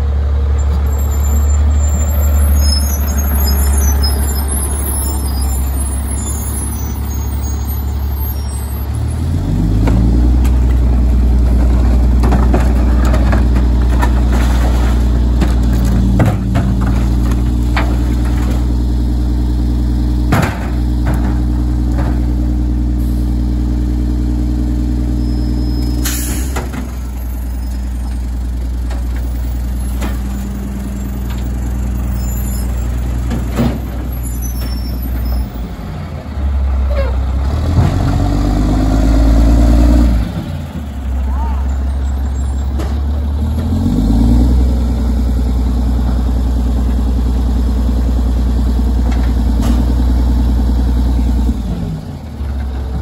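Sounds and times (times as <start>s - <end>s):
garbage truck diesel engine: 0.0s - 53.0s.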